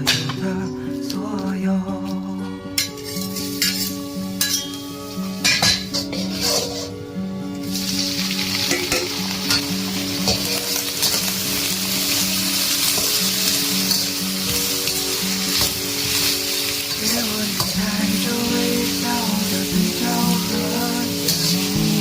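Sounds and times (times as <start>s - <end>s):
soft background music: 0.0s - 22.0s
food sizzling in hot oil: 2.8s - 6.9s, 7.5s - 22.0s.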